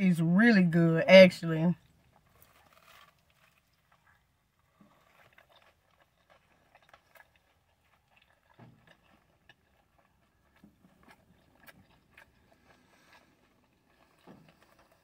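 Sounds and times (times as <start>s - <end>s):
chewing with mouth clicks: 1.8s - 15.0s.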